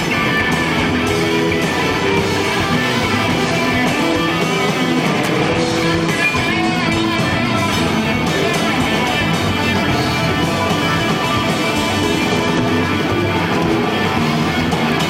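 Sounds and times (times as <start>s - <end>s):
electric guitar riffing: 0.0s - 15.0s
live rock band playing: 0.0s - 15.0s.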